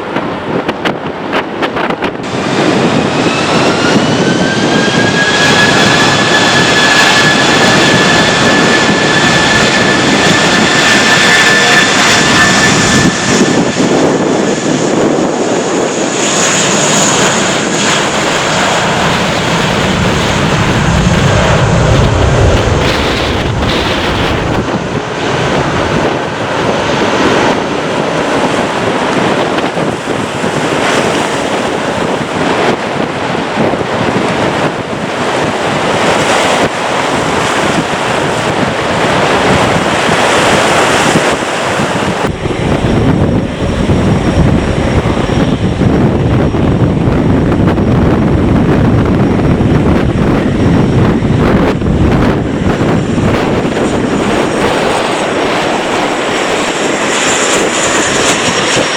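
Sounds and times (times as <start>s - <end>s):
jet engine roar: 0.0s - 58.9s
wind buffeting microphone: 0.0s - 58.9s
high fan whine: 2.2s - 58.9s.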